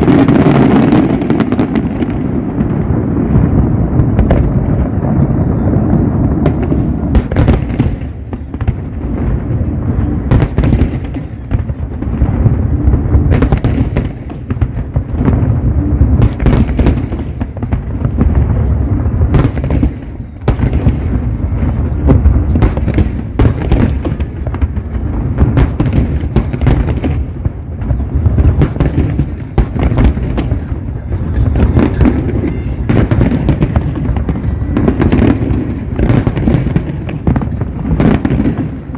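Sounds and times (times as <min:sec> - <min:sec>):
fireworks cracks and bangs: 0:00.0 - 0:38.9.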